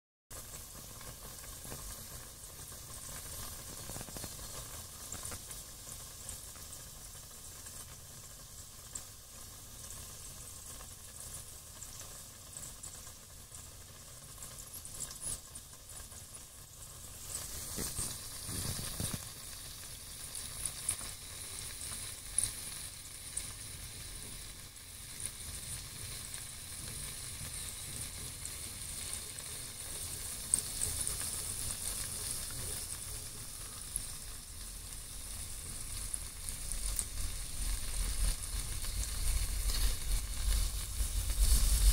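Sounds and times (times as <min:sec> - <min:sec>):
deep-frying sizzle: 0:00.3 - 0:41.9
oil crackles and pops: 0:00.3 - 0:41.9.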